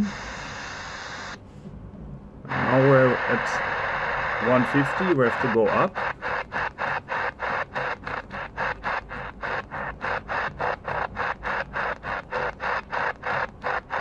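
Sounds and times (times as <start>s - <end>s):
radio static hissing in bursts: 0.0s - 1.6s, 2.4s - 14.0s.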